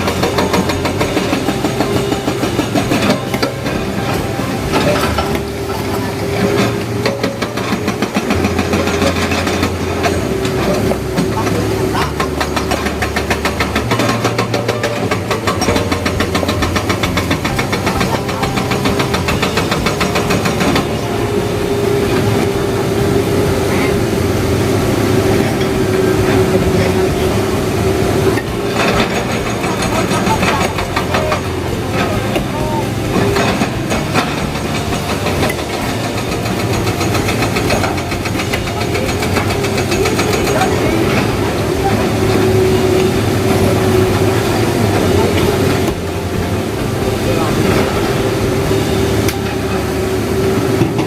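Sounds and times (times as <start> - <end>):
excavator diesel engine running: 0.0 - 51.0
hydraulic breaker hammering rock: 0.0 - 51.0.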